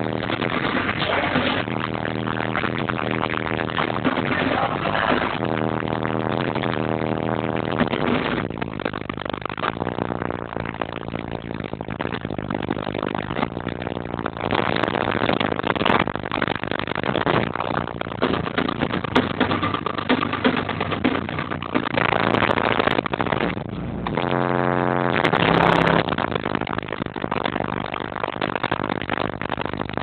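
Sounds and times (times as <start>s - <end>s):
loud car audio rumble: 0.0s - 30.0s.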